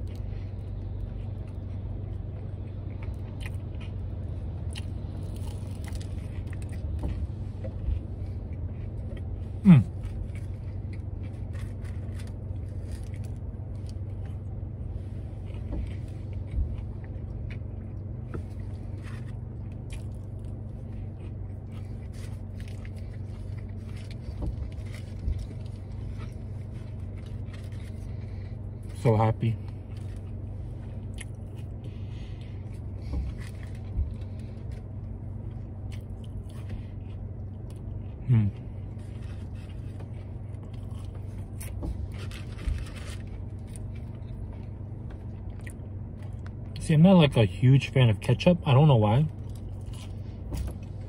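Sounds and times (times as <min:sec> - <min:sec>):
chewing and mouth clicks: 0:00.0 - 0:14.5, 0:15.4 - 0:29.0, 0:29.6 - 0:46.8, 0:49.3 - 0:50.9
low hum in car cabin: 0:00.0 - 0:51.0.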